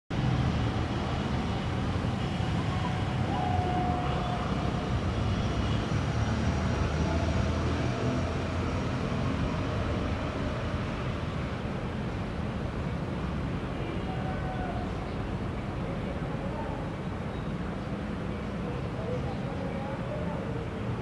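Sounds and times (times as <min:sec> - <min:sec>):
distant city traffic rumble: 0:00.1 - 0:21.0.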